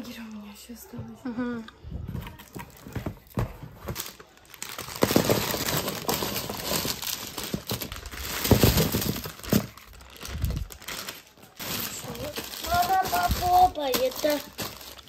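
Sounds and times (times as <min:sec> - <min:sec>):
wrappers crinkling and rustling: 0:02.3 - 0:15.0.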